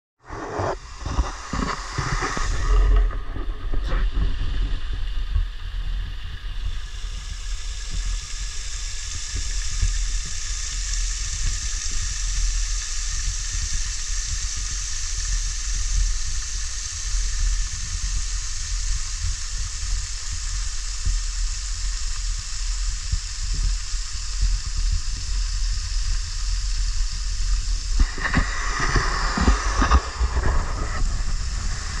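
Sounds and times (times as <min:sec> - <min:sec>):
low water rumble: 0:00.2 - 0:32.0
waterfall rushing into pool: 0:00.6 - 0:32.0.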